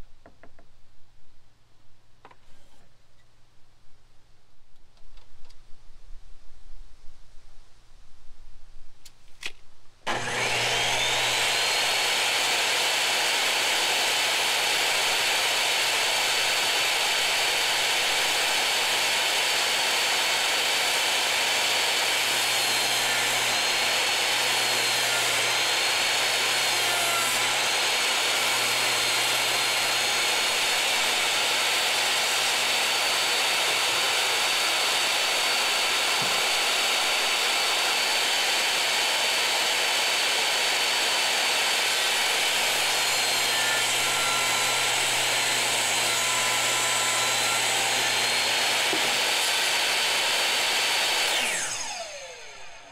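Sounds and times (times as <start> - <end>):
table saw cutting a board: 10.1 - 52.9.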